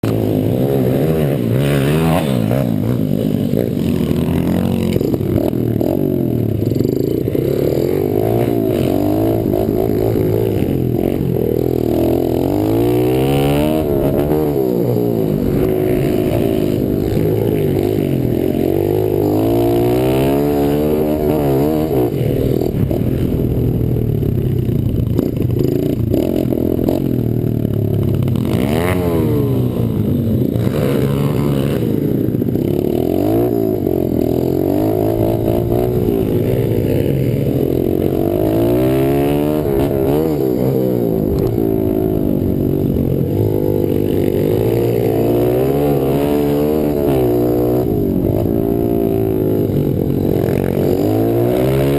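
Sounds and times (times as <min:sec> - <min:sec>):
small motorbike engine revving: 0:00.0 - 0:51.9.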